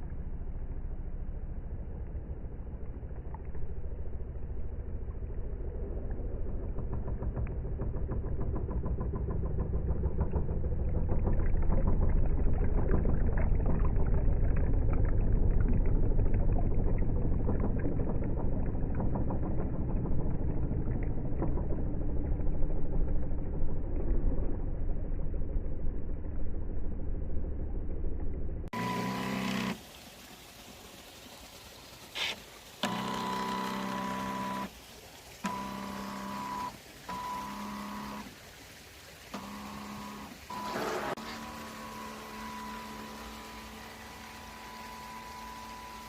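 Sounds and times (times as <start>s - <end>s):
toy boat engine rumble: 0.0s - 27.6s, 28.7s - 29.9s, 32.2s - 34.8s, 35.4s - 38.6s, 39.2s - 46.0s.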